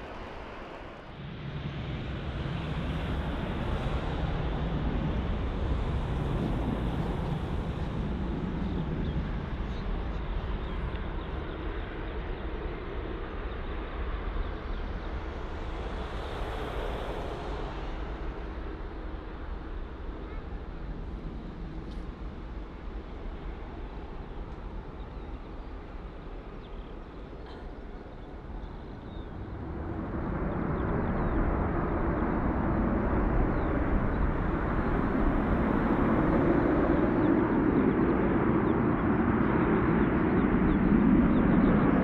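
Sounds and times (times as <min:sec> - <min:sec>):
jet airliner engine roar: 0:00.0 - 0:42.0.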